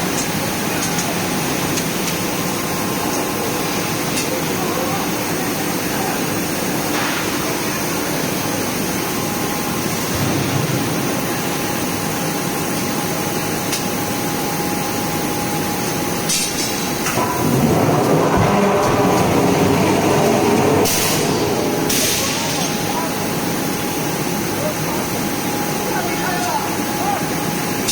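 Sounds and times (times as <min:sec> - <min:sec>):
forging machinery running: 0:00.0 - 0:27.9.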